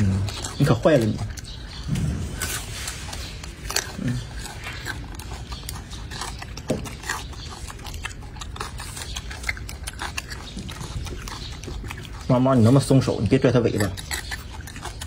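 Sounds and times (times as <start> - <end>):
wet clicking mouth sounds: 0.0 - 2.5, 3.1 - 15.0.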